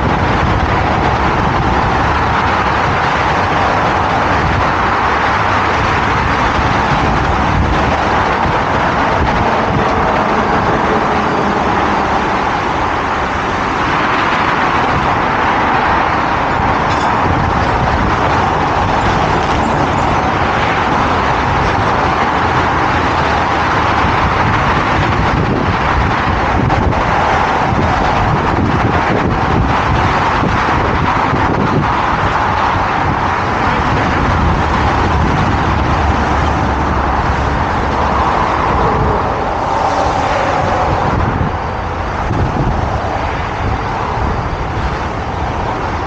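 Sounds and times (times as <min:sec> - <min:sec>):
heavy road vehicles running: 0:00.0 - 0:46.0.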